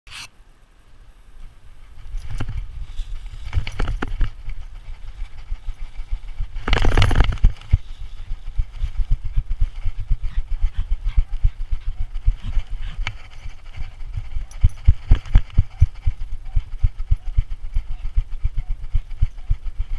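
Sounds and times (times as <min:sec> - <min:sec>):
low rumble: 0:00.8 - 0:19.9.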